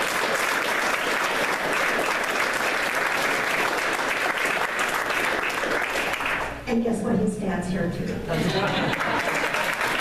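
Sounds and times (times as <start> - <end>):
audience applauding: 0.0 - 6.6, 8.5 - 10.0.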